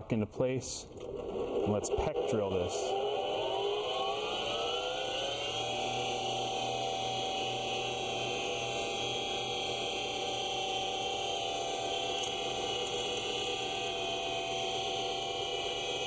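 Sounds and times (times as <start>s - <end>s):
lathe motor whine: 1.0s - 16.0s
drill peck-drilling workpiece: 1.2s - 16.0s.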